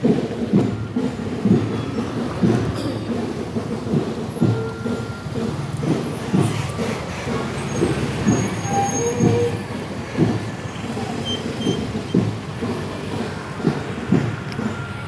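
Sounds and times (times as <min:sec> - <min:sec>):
coach engine: 0:00.0 - 0:15.0.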